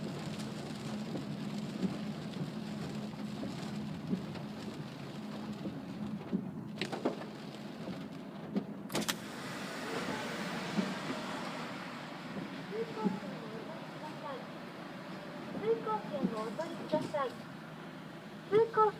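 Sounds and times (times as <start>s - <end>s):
low road hum: 0.0s - 18.9s
rain and tyre spray: 0.0s - 18.9s.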